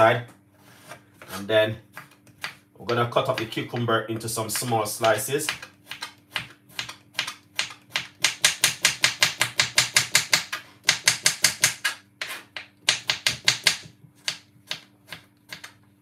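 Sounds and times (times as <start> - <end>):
knife chopping cucumber on board: 1.2 - 15.8.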